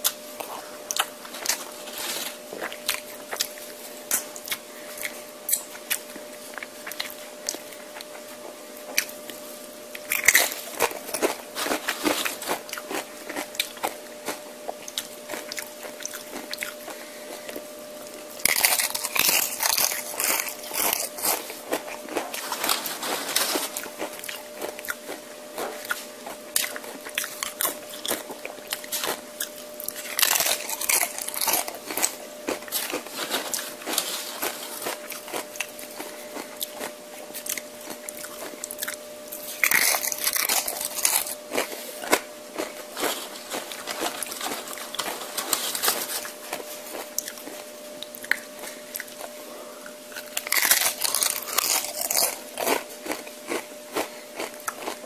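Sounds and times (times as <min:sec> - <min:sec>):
crunching tortilla chips: 0:00.0 - 0:49.4, 0:50.1 - 0:55.0
wet chewing: 0:00.0 - 0:49.4, 0:50.1 - 0:55.0
faint steady hum: 0:00.0 - 0:55.0.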